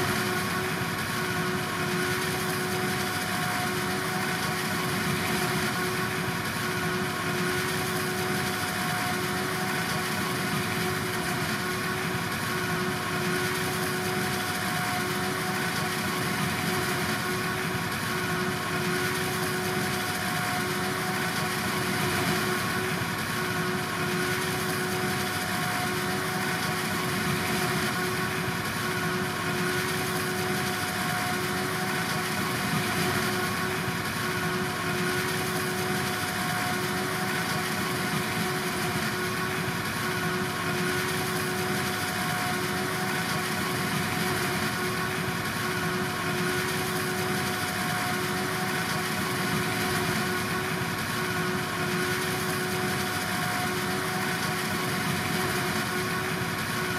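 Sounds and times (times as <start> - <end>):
farm machinery engine hum: 0.0 - 56.9
machinery whine: 0.0 - 56.9.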